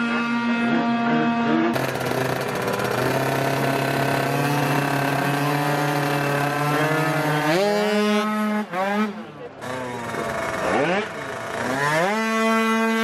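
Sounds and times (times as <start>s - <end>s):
scooter engines revving and accelerating: 0.0s - 13.0s.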